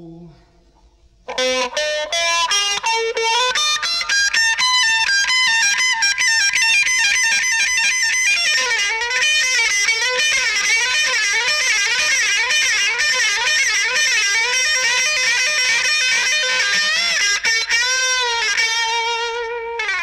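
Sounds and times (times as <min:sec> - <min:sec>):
electric guitar solo: 0:01.3 - 0:20.0.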